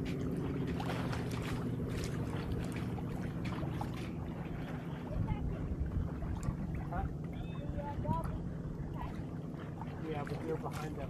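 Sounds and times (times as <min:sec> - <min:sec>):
low water rush: 0:00.0 - 0:11.0
water splashing along boat hull: 0:00.0 - 0:11.0.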